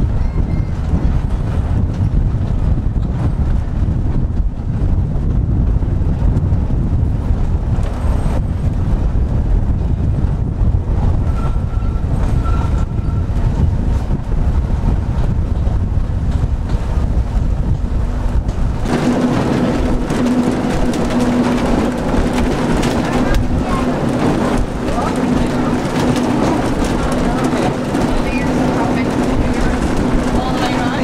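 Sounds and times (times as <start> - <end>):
steady hum inside tram: 0.0 - 31.0
tram rumbling on rails: 0.0 - 31.0
wind buffeting microphone: 0.0 - 31.0.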